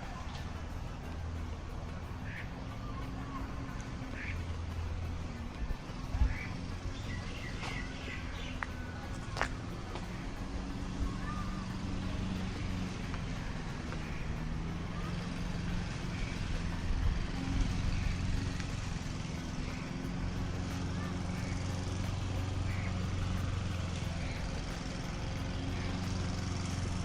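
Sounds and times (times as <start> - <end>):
traffic engine hum: 0.0 - 27.0.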